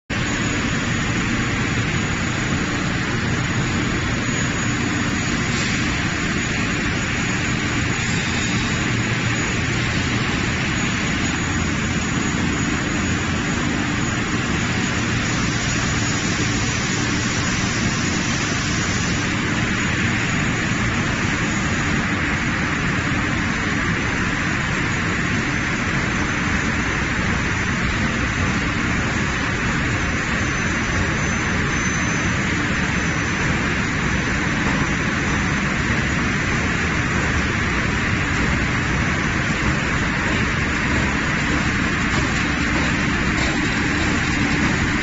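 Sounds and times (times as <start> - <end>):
production line machine noise: 0.1 - 45.0.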